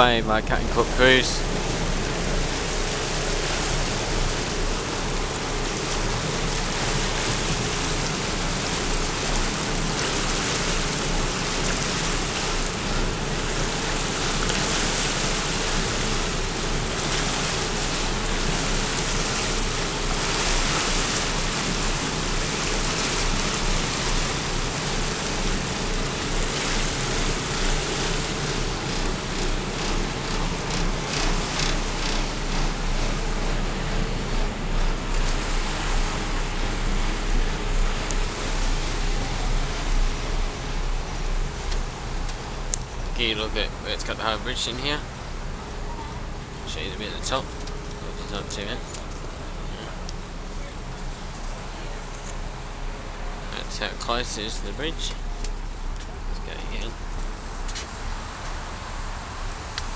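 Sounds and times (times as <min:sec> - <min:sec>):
low engine hum: 0:00.0 - 0:59.9
water churning: 0:00.0 - 0:59.9
wind: 0:00.0 - 0:59.9.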